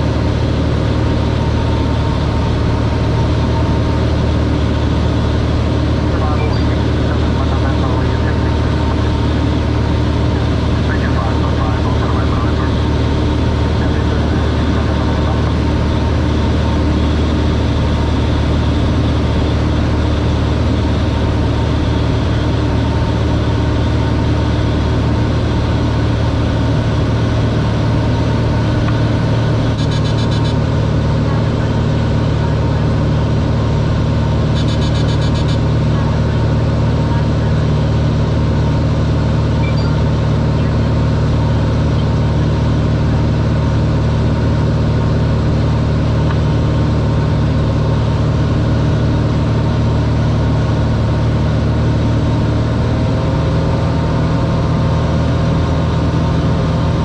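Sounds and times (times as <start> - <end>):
airplane engine droning: 0.0 - 57.0.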